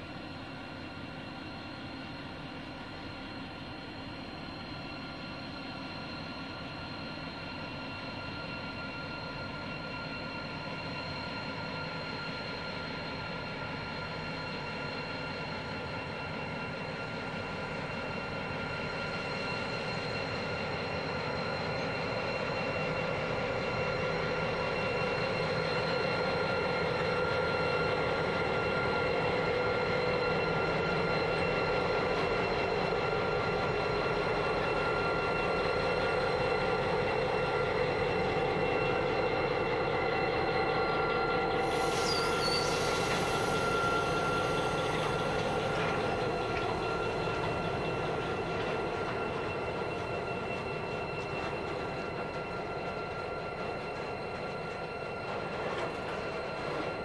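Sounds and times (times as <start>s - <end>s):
diesel locomotive engines: 0.0s - 57.0s.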